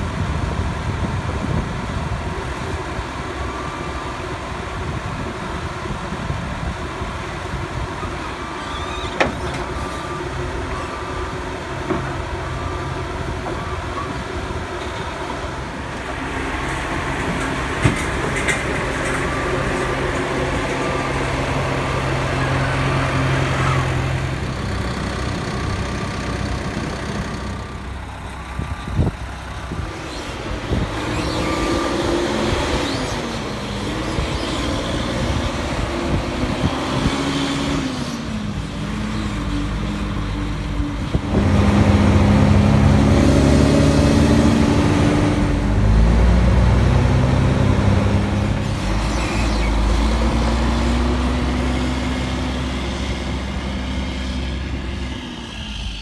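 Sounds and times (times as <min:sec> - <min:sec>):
truck diesel engine shifting gears: 0:07.7 - 0:55.9.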